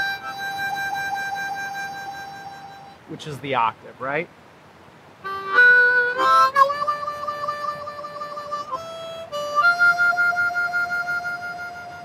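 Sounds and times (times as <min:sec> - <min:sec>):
slow blues harmonica riff: 0:00.0 - 0:03.1, 0:05.2 - 0:12.0.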